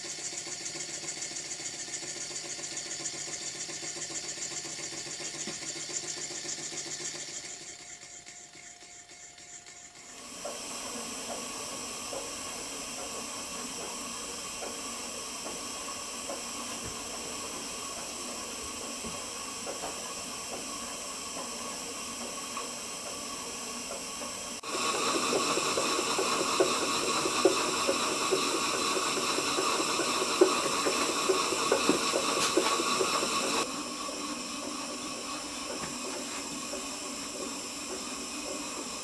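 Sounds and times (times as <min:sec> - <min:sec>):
steam hissing: 0:00.0 - 0:08.2, 0:10.0 - 0:39.0
model steam engine exhaust beat: 0:00.0 - 0:39.0.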